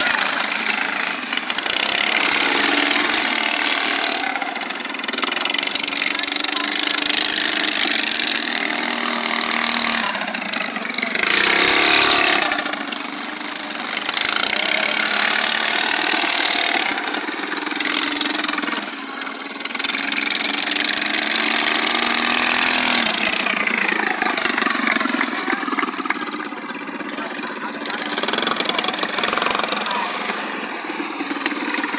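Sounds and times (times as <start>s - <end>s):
mini bike engines revving: 0.0s - 31.9s.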